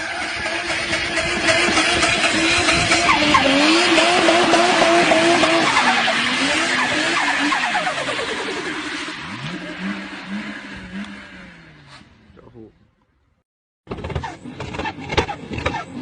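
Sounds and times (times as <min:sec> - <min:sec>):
car engine revving: 0:00.0 - 0:12.4, 0:13.9 - 0:16.0
tyres skidding and squealing: 0:00.0 - 0:12.8, 0:13.9 - 0:16.0.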